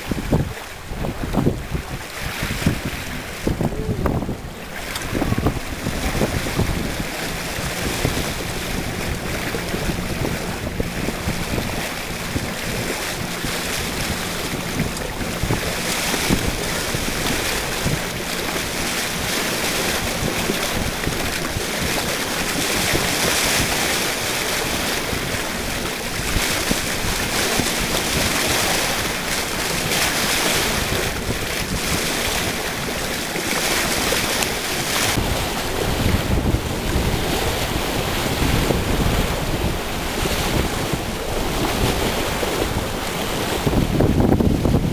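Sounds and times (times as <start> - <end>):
water washing along boat: 0.0 - 44.9
wind buffeting microphone: 0.0 - 44.9.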